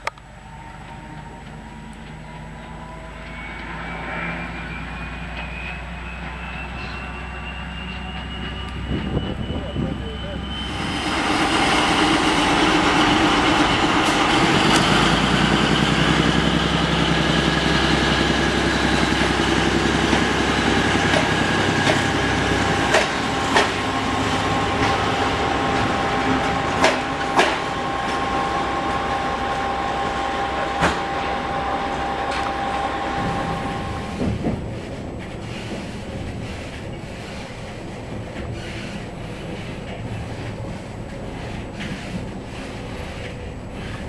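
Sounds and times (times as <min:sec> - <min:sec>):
diesel locomotive engine: 0:00.0 - 0:44.0.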